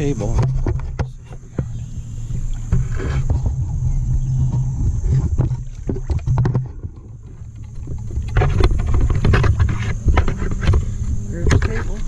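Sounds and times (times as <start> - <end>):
low rumble: 0.0 - 12.0
water sloshing and splashing: 0.0 - 12.0.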